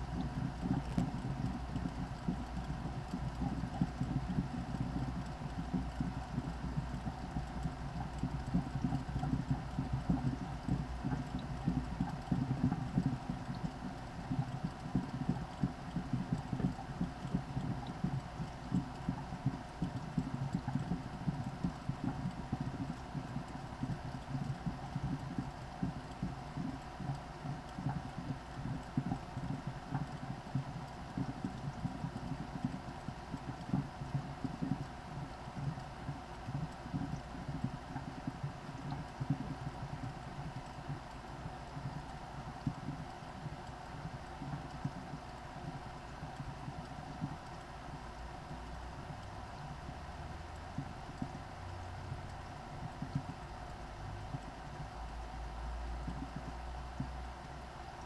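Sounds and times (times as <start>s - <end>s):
inline duct fan humming: 0.0s - 58.0s.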